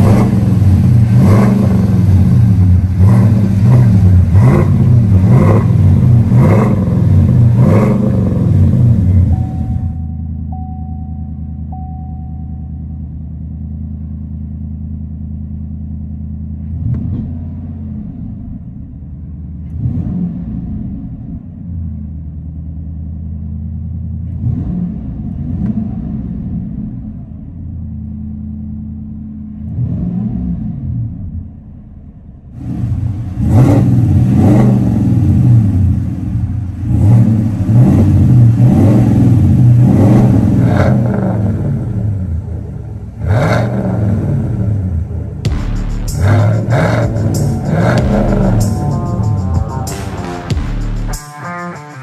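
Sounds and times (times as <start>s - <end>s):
truck engine idling and revving: 0.0s - 52.0s.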